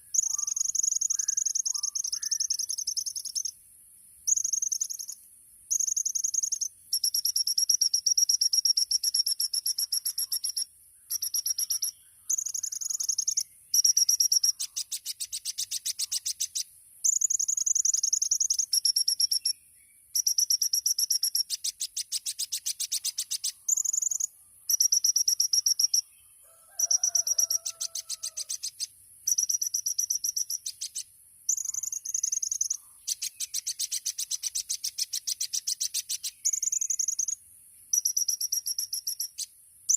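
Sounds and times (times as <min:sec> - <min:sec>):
bird singing whistles and trills: 0:00.0 - 0:03.5, 0:04.3 - 0:26.1, 0:26.8 - 0:39.9.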